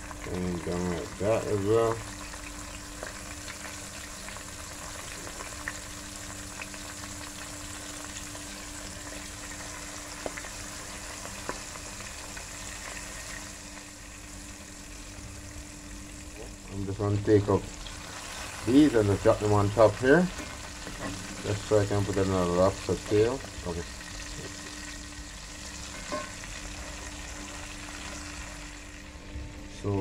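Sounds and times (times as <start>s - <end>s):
food frying in hot oil: 0.0s - 30.0s.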